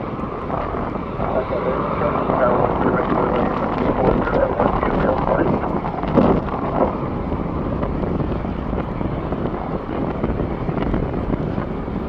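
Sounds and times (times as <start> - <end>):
jet engines rumbling: 0.0 - 12.0
wind on microphone: 0.0 - 12.0.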